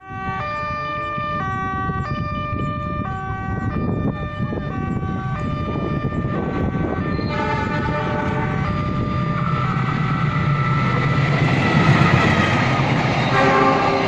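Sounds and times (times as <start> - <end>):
melody of held stepped tones: 0.3 - 12.0
freight train rumble: 1.1 - 14.0.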